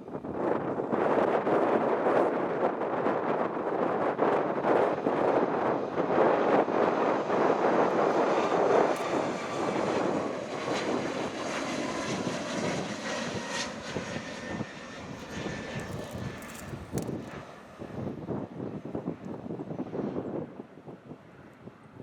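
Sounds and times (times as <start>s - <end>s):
faint jet whine: 0.0s - 22.0s
jet engines rumbling: 0.1s - 19.9s.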